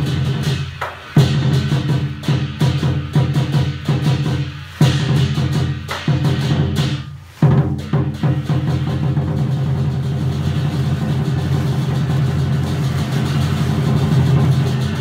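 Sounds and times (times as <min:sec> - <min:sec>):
deep drum in quick rhythm: 0:00.0 - 0:15.0.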